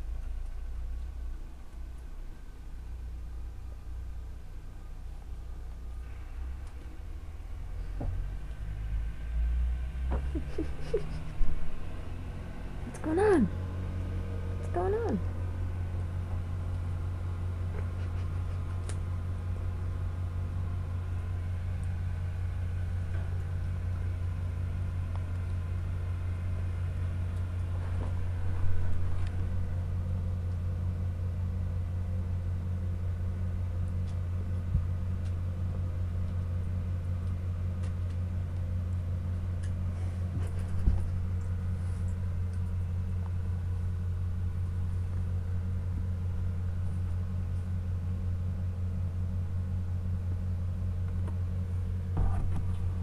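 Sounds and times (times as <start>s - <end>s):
low hum: 0.0s - 53.0s.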